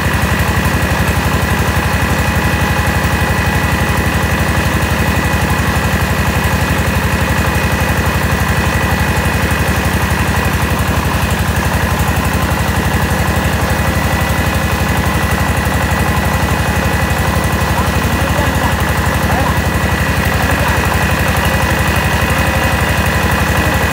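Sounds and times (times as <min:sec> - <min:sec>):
engine chugging: 0:00.0 - 0:23.9.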